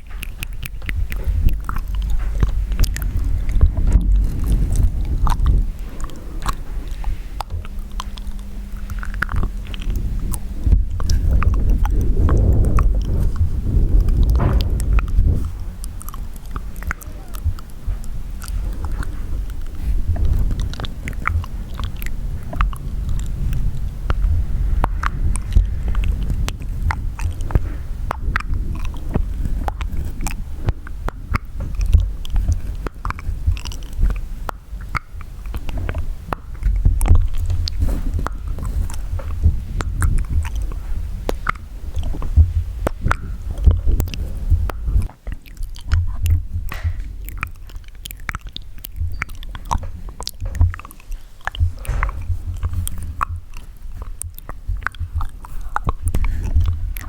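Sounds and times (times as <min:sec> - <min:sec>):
low rumble: 0:00.0 - 0:57.0
wet mouth clicks and smacks: 0:00.0 - 0:57.0.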